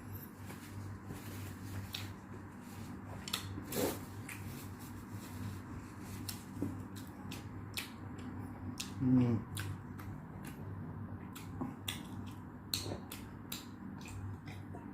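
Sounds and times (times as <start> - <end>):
steady low hum: 0.0 - 14.9
soft chewing and mouth sounds: 0.1 - 14.9.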